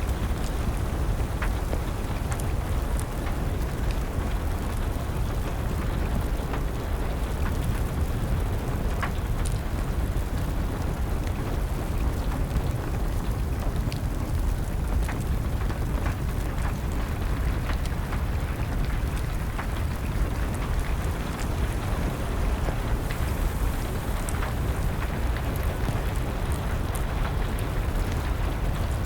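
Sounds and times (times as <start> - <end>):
steady rain: 0.0 - 29.0
wood fire crackling: 0.0 - 29.0.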